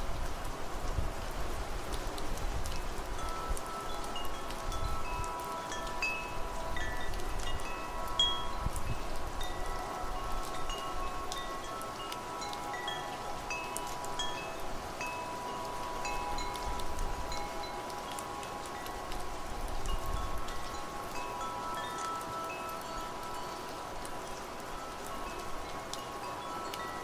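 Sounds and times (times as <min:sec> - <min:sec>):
wind and rain: 0:00.0 - 0:27.0
wind chimes ringing: 0:03.2 - 0:27.0.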